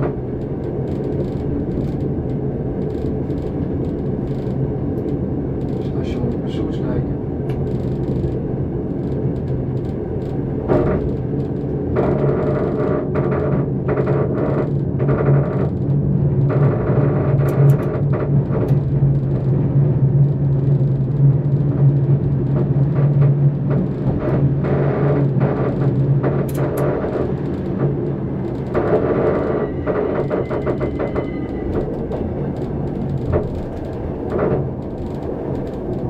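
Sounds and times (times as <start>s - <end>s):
train hum and rumble: 0.0s - 36.0s.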